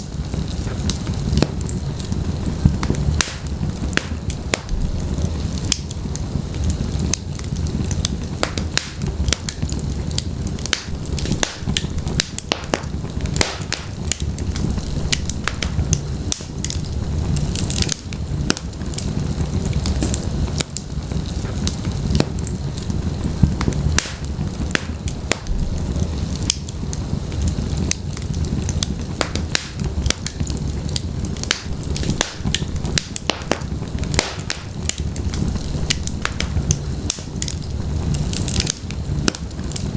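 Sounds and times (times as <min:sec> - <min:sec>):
logs burning in fireplace: 0:00.0 - 0:39.9.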